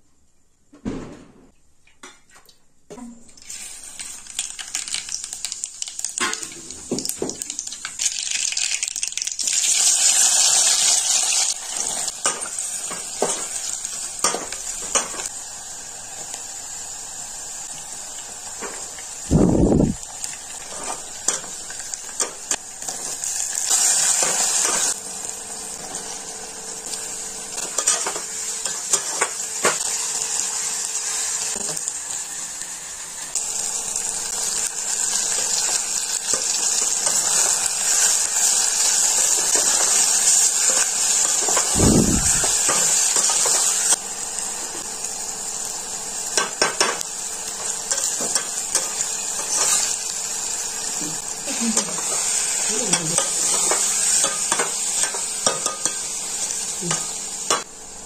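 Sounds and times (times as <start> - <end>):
oil sizzling in a metal pot: 3.0 - 58.0.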